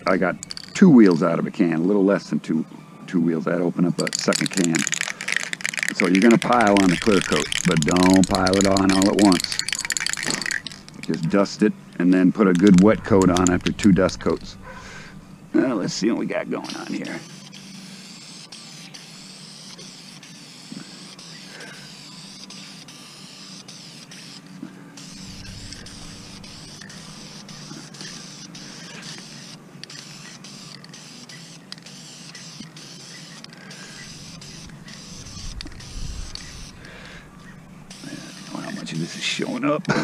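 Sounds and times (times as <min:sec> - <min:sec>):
spray can hissing: 0:04.0 - 0:11.5, 0:12.5 - 0:15.0, 0:16.6 - 0:37.2, 0:37.9 - 0:39.3.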